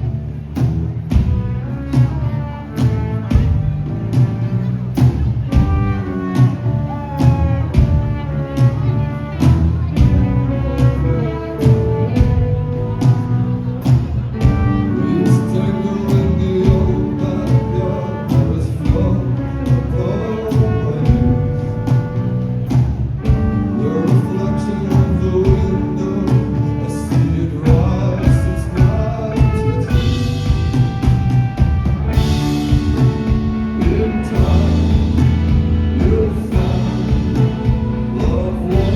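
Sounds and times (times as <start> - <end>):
drums hitting steadily: 0.0 - 38.9
live rock band playing: 0.0 - 38.9.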